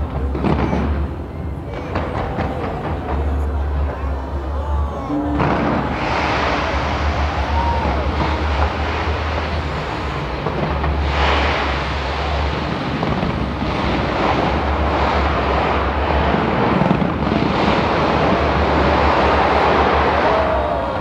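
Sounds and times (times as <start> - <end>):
fireworks explosions and crackle: 0.0 - 21.0.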